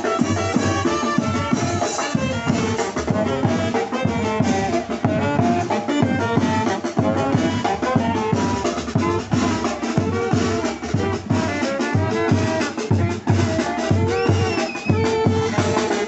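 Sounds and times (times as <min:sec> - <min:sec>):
bass drum beat: 0:00.0 - 0:16.0
saxophones playing melody: 0:00.0 - 0:16.0
snare drum: 0:00.0 - 0:16.0.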